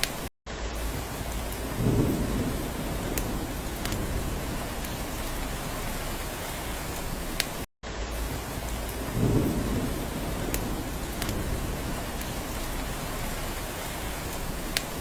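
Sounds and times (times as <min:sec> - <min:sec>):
rain falling on a cabin: 0:00.0 - 0:15.0
low rumble of thunder: 0:00.8 - 0:07.0, 0:08.2 - 0:14.8.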